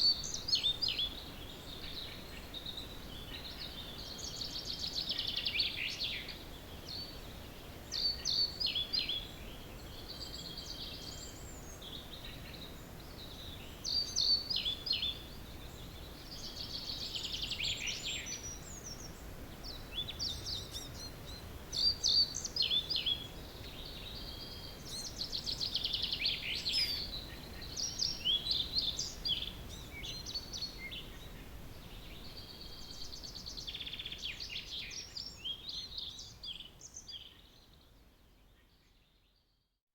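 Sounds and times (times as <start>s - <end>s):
songbirds singing: 0.0s - 39.8s
faint background hiss: 0.0s - 39.9s.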